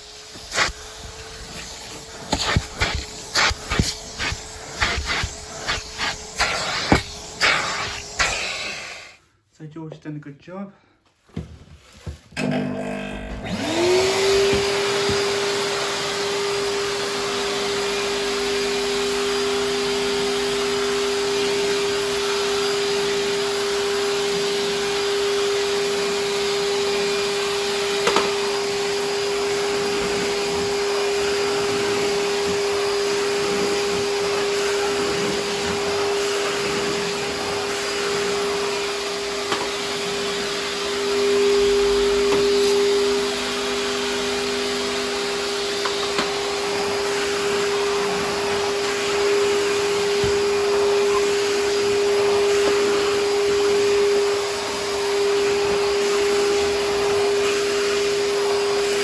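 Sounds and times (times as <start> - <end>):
vacuum cleaner motor whining: 0.0 - 9.2, 12.1 - 59.0.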